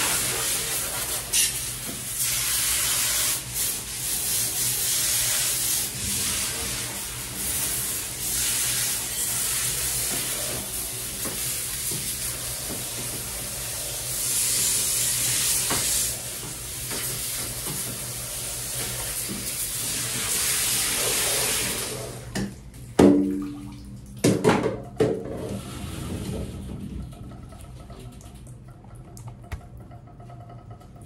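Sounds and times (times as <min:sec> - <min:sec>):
water running into a bathtub: 0:00.0 - 0:31.0.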